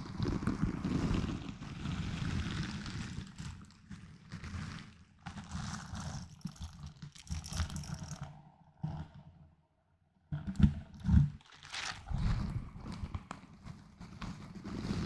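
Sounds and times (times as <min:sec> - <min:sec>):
small objects crackling and scraping: 0:00.1 - 0:08.4, 0:10.6 - 0:15.0.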